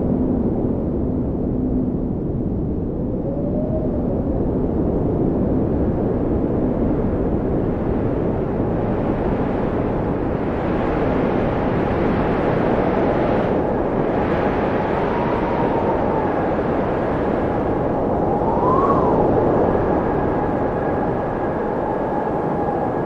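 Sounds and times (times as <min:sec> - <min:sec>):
blizzard wind rushing: 0:00.0 - 0:23.0
wind whistling: 0:00.0 - 0:23.0.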